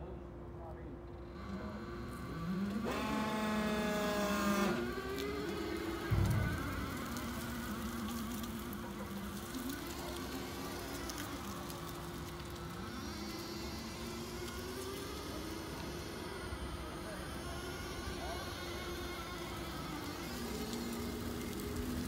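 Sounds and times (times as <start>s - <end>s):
electric forklift motor whining: 1.1s - 22.0s.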